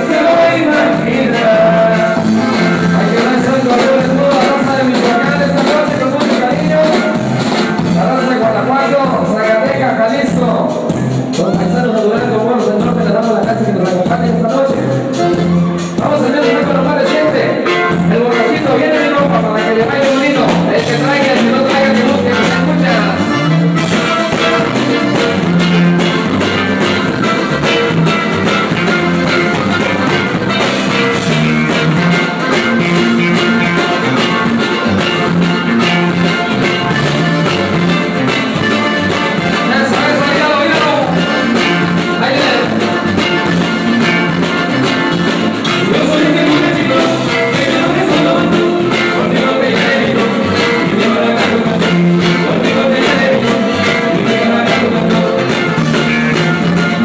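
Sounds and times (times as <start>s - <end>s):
button accordion: 0.0s - 10.2s, 13.7s - 57.0s
bass line: 0.0s - 57.0s
drums: 0.0s - 57.0s
guitar: 0.0s - 57.0s.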